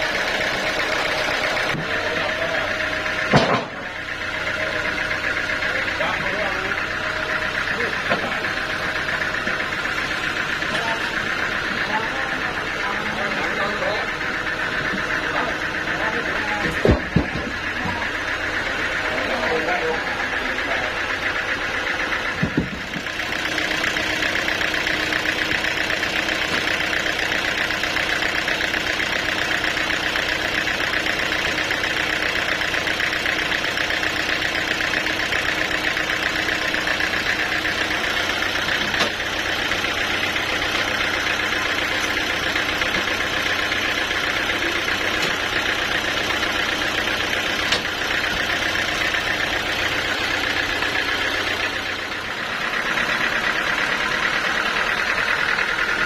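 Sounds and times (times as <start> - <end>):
machinery droning: 0.0 - 56.0.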